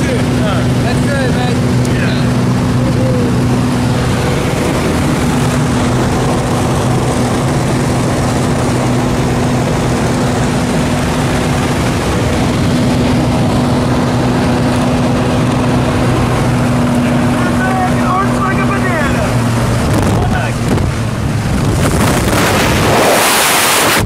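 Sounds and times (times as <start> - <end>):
propeller aircraft engine drone: 0.0 - 24.0.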